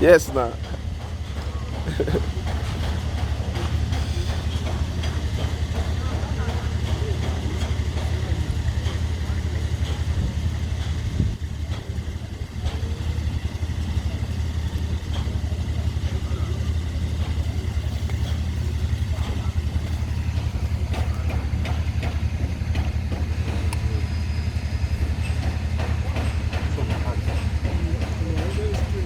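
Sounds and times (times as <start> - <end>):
engine idling: 0.0 - 29.0
faint voices: 0.0 - 29.0.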